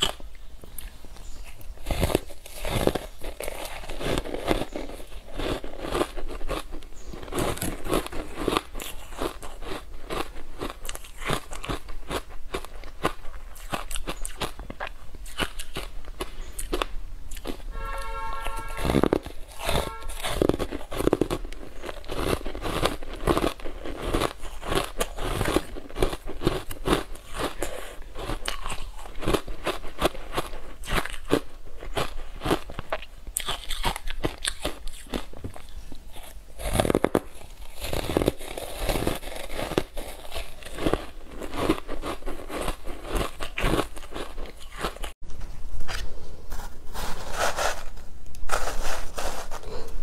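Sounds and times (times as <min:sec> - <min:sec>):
crunching and chewing ice: 0:00.0 - 0:45.2.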